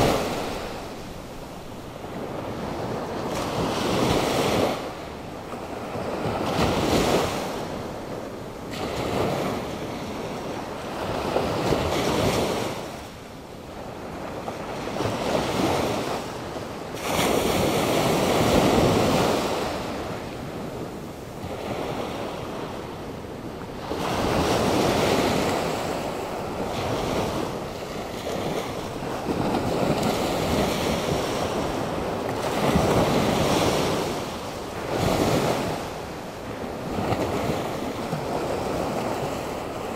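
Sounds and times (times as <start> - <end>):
ocean surf breaking on shore: 0.0 - 39.9
wind on microphone: 0.0 - 39.9.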